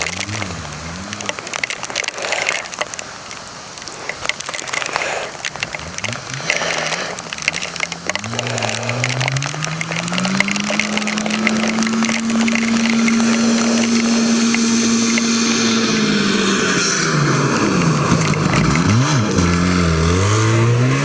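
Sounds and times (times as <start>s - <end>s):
snowmobile engine revving: 0.0s - 2.8s, 3.9s - 21.0s
crackling hiss: 0.0s - 20.6s.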